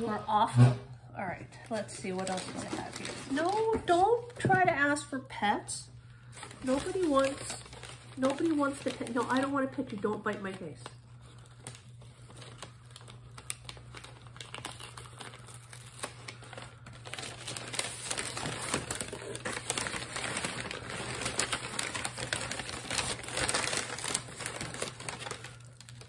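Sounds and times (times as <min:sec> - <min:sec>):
paper rustling and crinkling: 0:01.7 - 0:04.4, 0:06.3 - 0:26.0.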